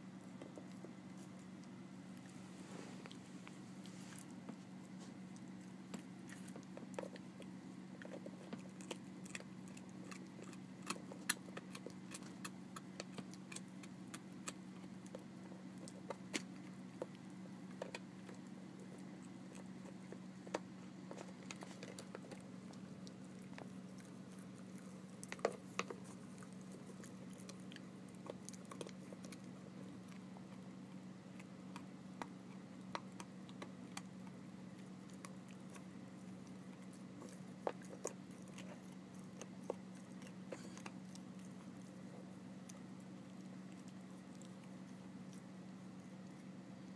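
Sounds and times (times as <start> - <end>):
puppy gnawing rawhide chew: 0.0 - 46.9
steady low hum: 0.0 - 46.9.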